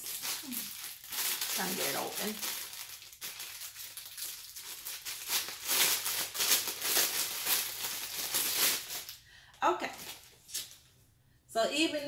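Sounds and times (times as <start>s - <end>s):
plastic bag crinkling: 0.0s - 9.2s, 9.8s - 10.8s.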